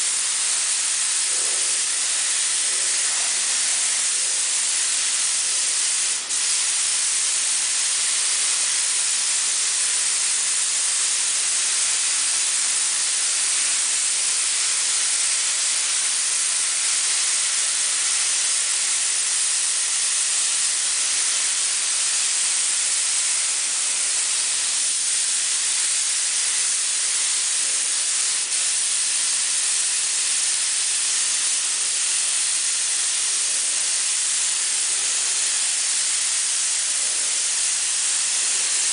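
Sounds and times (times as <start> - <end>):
paint spray gun hissing: 0.0 - 38.9.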